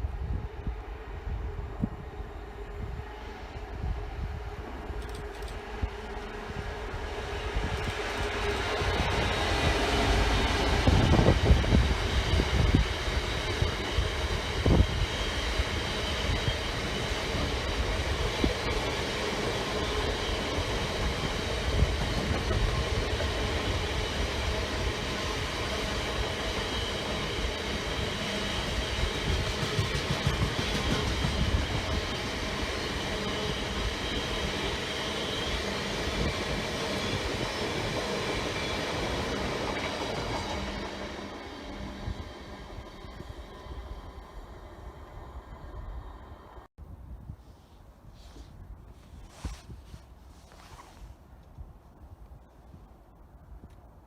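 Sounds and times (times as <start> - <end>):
train passing: 0.0 - 46.7.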